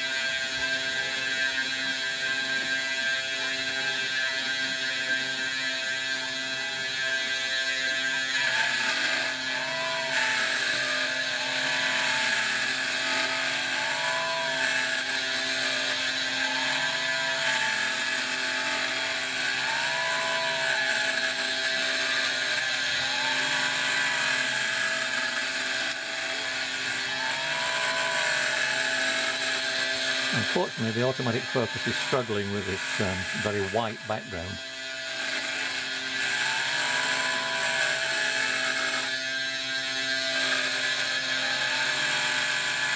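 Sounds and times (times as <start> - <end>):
mill spindle motor whining: 0.0 - 42.9.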